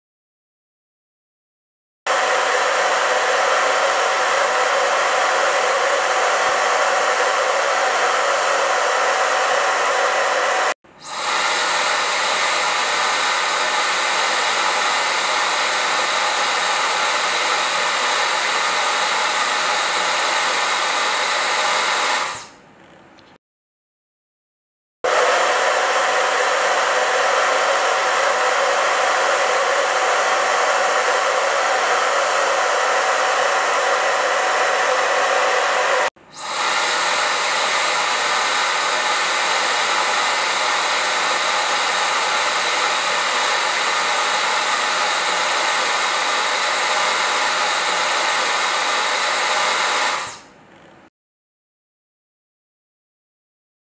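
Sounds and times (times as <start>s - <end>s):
hair dryer blowing with hum: 2.1s - 22.6s, 25.0s - 50.6s
hair dryer rush of air: 2.1s - 22.6s, 25.0s - 50.5s.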